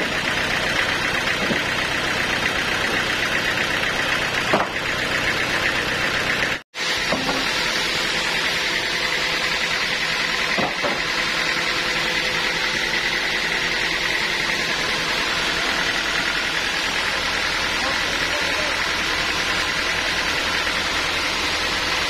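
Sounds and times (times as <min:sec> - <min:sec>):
sawmill machinery whining: 0:00.0 - 0:22.0.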